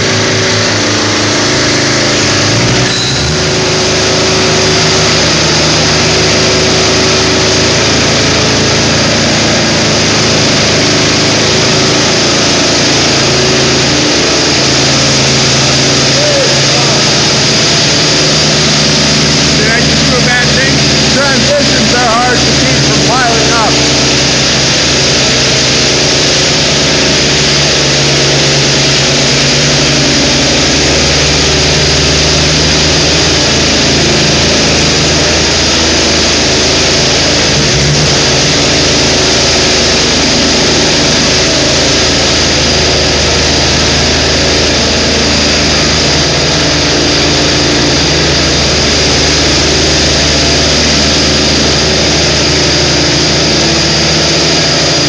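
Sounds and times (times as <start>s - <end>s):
power trowel engine running: 0.0s - 55.0s.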